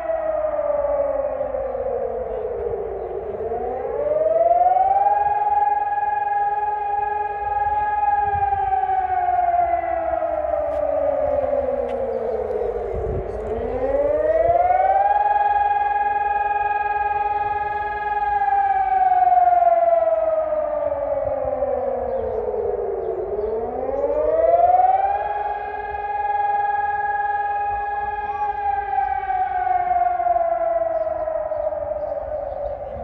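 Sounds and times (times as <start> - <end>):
warning siren wailing: 0.0 - 33.0.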